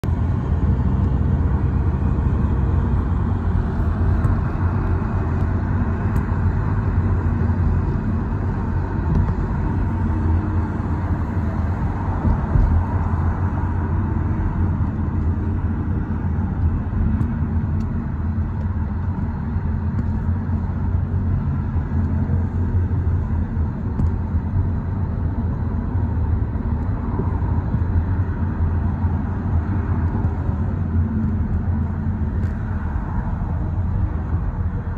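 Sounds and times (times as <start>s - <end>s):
car road noise from cabin: 0.0s - 34.9s.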